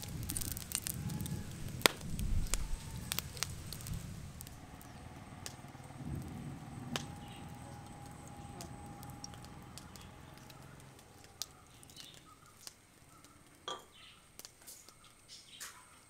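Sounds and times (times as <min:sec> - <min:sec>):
oil crackling and popping: 0:00.0 - 0:16.0.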